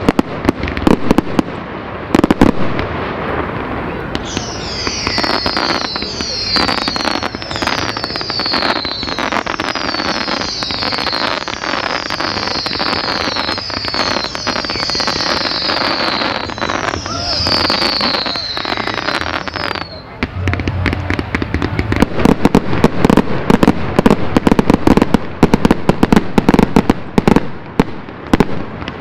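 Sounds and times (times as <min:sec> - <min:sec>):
crackling bursts: 0:00.0 - 0:29.0
firework bangs: 0:00.0 - 0:29.0
whistling firework shots: 0:00.0 - 0:29.0.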